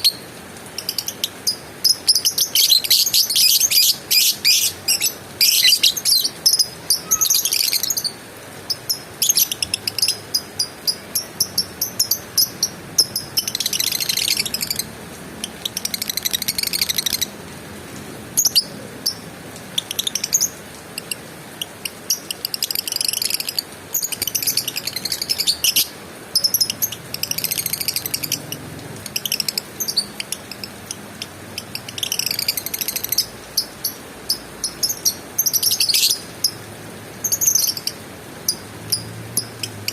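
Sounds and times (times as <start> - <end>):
lovebird chattering: 0.8 - 17.3, 19.8 - 36.6, 37.3 - 39.9.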